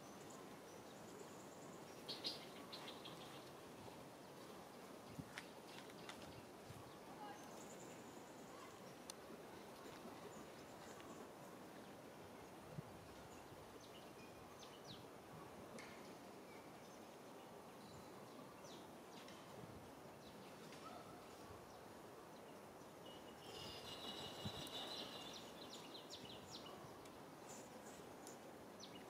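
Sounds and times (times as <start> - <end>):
faint outdoor hiss: 0.0 - 29.0.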